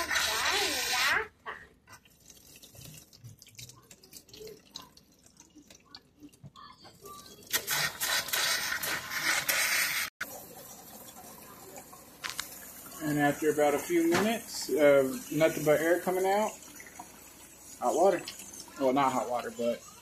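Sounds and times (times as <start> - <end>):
tap sputtering air and water: 0.0 - 19.8.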